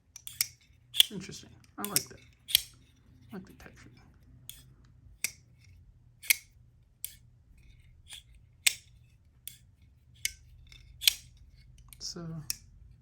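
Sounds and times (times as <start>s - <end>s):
folding knife clicking: 0.1s - 2.9s, 4.4s - 12.7s.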